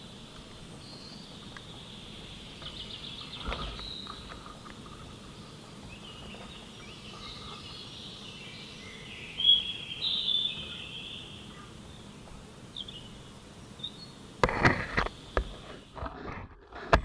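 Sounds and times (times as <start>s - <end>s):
high-pitched insect drone: 0.0s - 16.1s
birds chirping: 0.0s - 16.3s.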